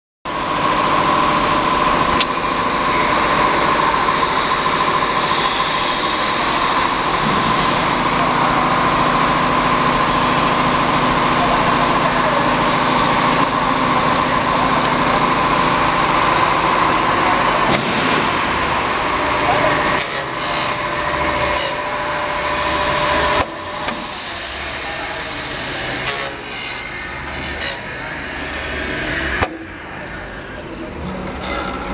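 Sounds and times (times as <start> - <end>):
bending machine hum and whine: 0.3 - 31.9.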